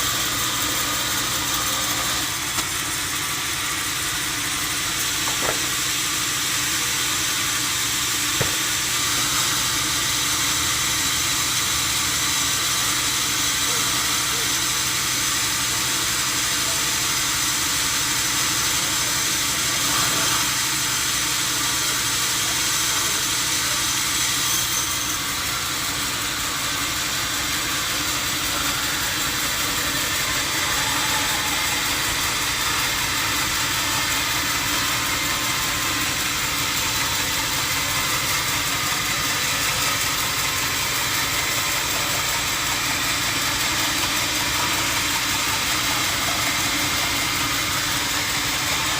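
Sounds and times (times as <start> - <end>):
sawmill machinery hum and hiss: 0.0 - 48.9.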